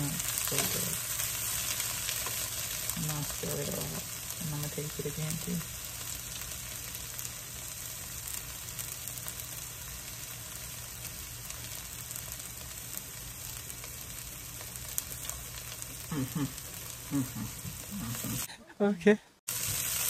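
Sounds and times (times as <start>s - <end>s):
filling sizzling in a pan: 0.0s - 18.5s, 19.5s - 20.0s.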